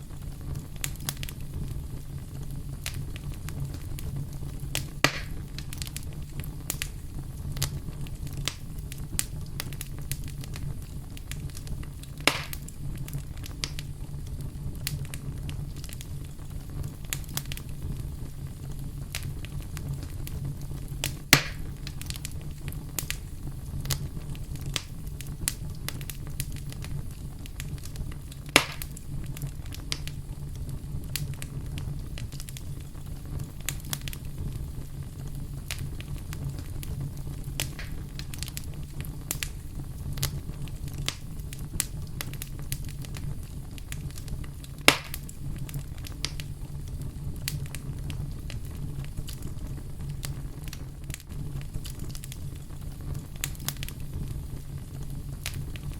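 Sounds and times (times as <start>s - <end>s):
campfire crackling: 0.0s - 55.9s
loud fire pops: 0.0s - 55.9s
low steady rumble: 0.0s - 55.9s.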